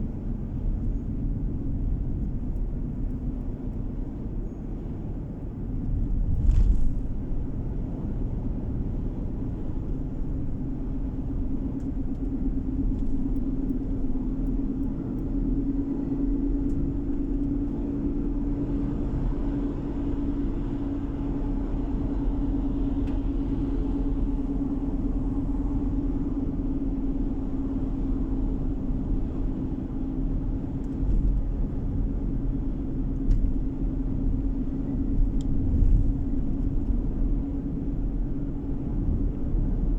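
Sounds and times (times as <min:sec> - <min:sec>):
car interior road noise: 0:00.0 - 0:39.9.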